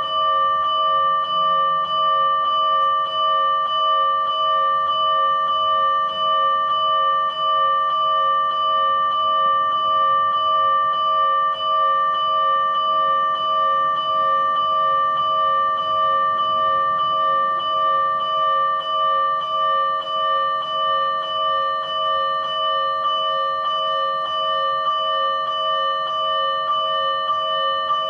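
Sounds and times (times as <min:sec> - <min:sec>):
electronic fire engine bell clanging: 0:00.0 - 0:28.0.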